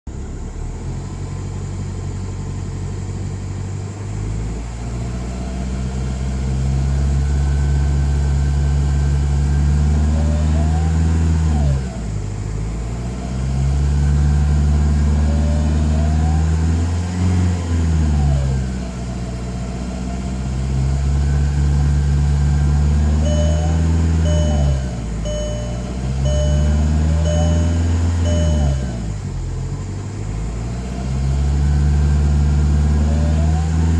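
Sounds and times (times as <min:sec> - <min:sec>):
diesel engine under load: 0:00.1 - 0:33.9.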